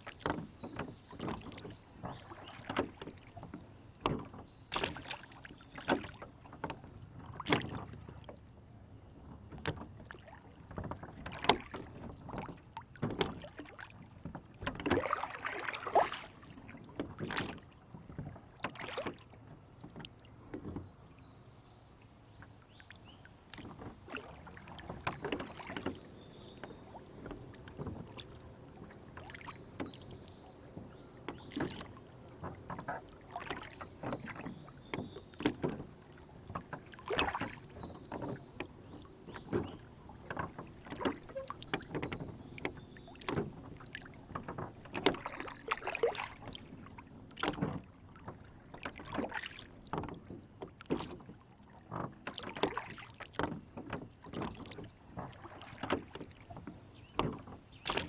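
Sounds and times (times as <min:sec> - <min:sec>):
water lapping against rowboat: 0:00.0 - 0:58.0.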